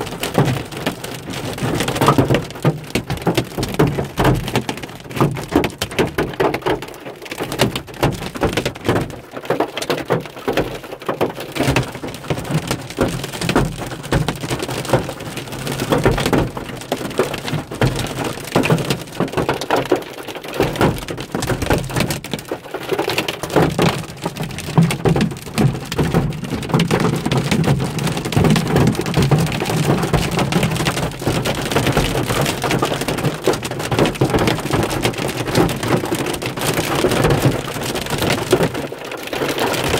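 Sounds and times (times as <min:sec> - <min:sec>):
hail pelting car roof: 0:00.0 - 0:39.9.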